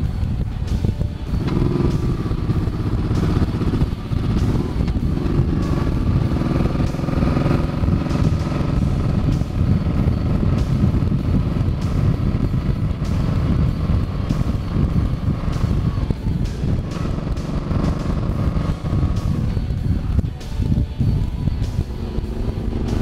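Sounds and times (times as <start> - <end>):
motorcycle engine running: 0.0 - 23.0
wind rush on microphone: 0.0 - 23.0.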